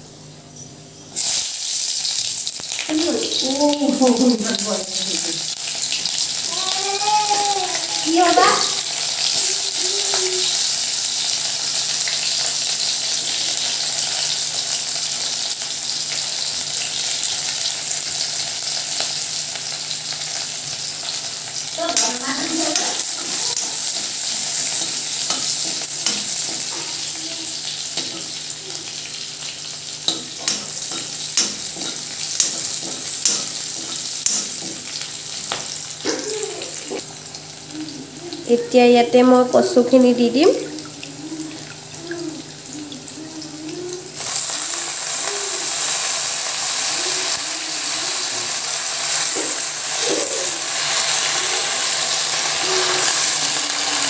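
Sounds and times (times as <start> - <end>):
vegetables sizzling in hot oil: 1.1 - 54.0.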